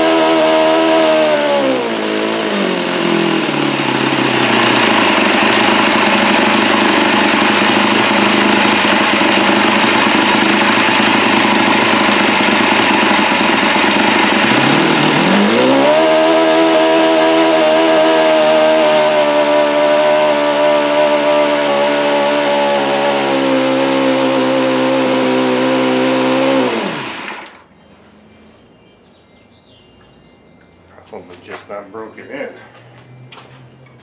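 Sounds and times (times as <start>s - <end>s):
model engine running: 0.0s - 27.7s.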